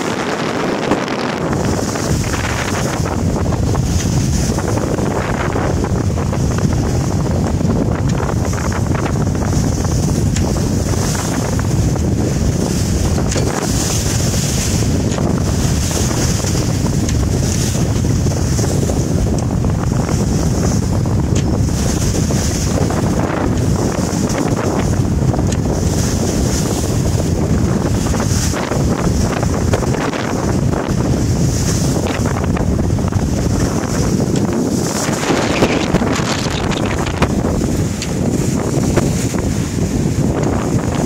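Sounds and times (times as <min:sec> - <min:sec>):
waves rushing along hull: 0:00.0 - 0:41.0
wind buffeting microphone: 0:00.0 - 0:41.0.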